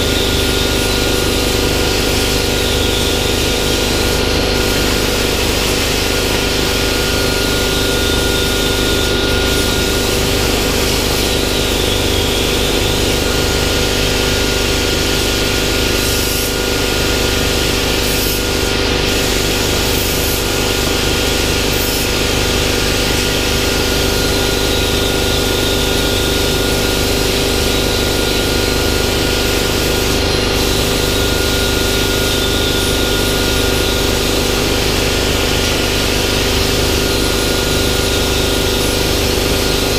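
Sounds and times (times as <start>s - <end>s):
machine hum: 0.0s - 39.9s
plasma cutter hissing: 0.0s - 39.9s.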